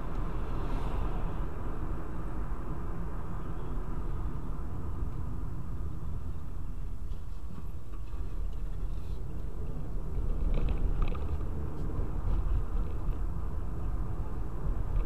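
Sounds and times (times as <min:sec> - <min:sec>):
car driving on paved road: 0:00.0 - 0:15.0.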